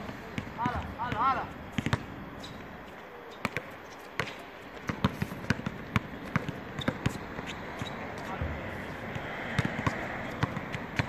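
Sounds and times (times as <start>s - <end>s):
basketball bouncing on court: 0.0s - 2.2s, 3.4s - 11.0s.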